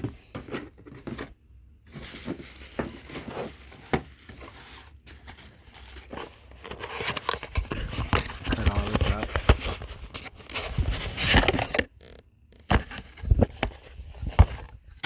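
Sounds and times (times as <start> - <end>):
packaging crinkling and rustling: 1.9 - 14.8.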